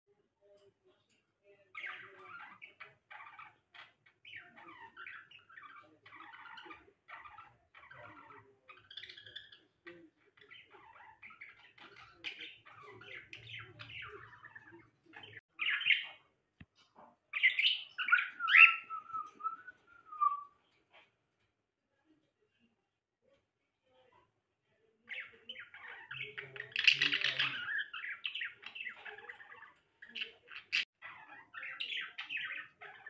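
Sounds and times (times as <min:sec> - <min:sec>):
parrots chirping and chattering: 0:00.4 - 0:21.6, 0:25.0 - 0:33.0.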